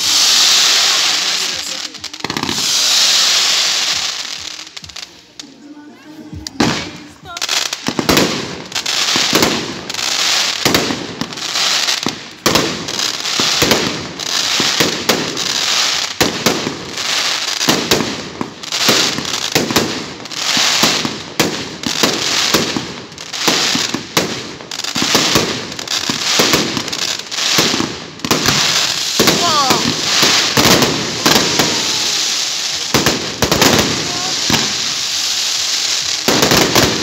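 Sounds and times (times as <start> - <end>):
sizzle of burning firework sparks: 0.0 - 5.6, 6.4 - 37.0.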